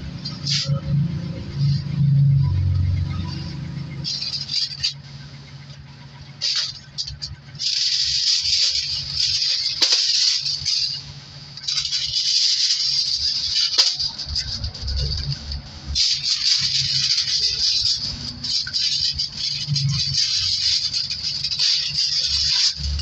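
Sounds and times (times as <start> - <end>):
aluminum foil crinkling: 0.2 - 5.1, 6.3 - 23.0.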